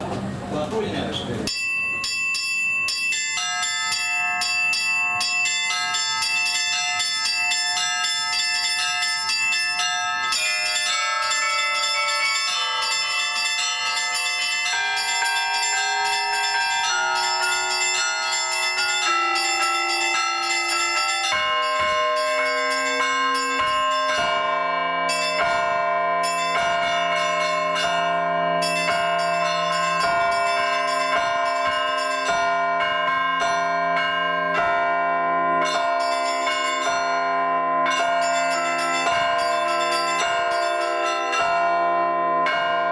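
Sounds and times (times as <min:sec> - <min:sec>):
church bells pealing: 0:00.0 - 0:42.9
deep bells ringing: 0:00.8 - 0:42.9
rapid strikes on high bells: 0:01.5 - 0:42.9.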